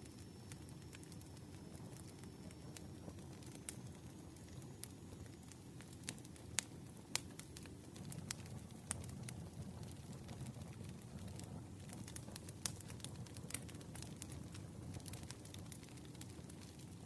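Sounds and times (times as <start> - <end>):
sharp pops of fire: 0.0 - 17.0
wood fire crackling: 0.0 - 17.0.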